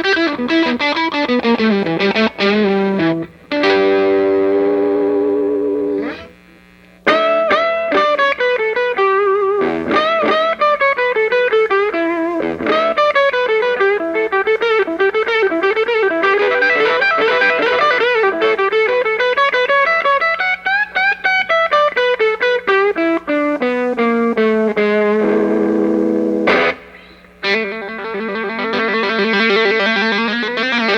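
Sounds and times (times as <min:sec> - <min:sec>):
overdriven electric guitar solo: 0:00.0 - 0:30.9.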